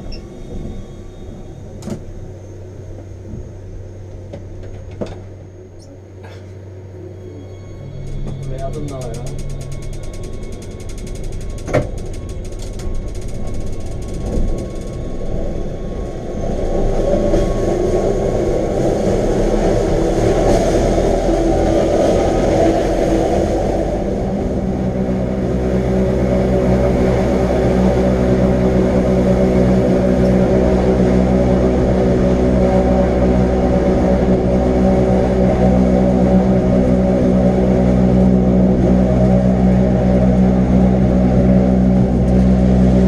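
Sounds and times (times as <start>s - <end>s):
electric train motor hum: 0.0s - 43.0s.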